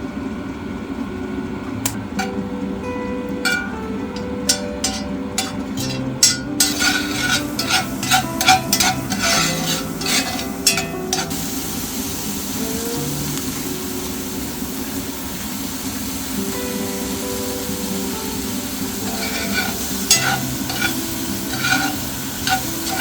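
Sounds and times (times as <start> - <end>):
guitar music: 1.8 - 23.0
hiss: 3.5 - 23.0.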